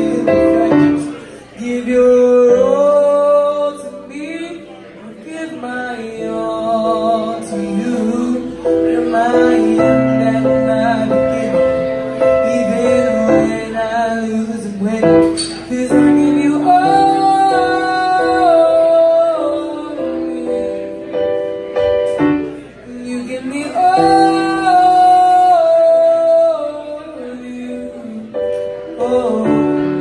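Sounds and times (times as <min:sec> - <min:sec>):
boy singing: 0:00.0 - 0:21.0, 0:22.9 - 0:30.0
keyboard piano accompaniment: 0:00.0 - 0:30.0.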